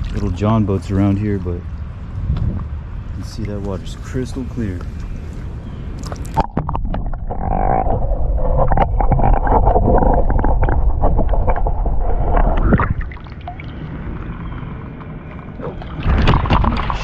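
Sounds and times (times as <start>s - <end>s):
water sloshing and splashing: 0.0s - 2.3s, 4.9s - 17.0s
wind rumble on microphone: 0.0s - 17.0s.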